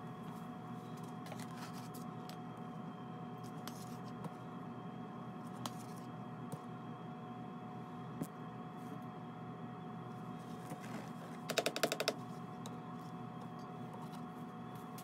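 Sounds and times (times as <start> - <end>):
faint constant whine: 0.0 - 15.0
steady hum: 0.0 - 15.0.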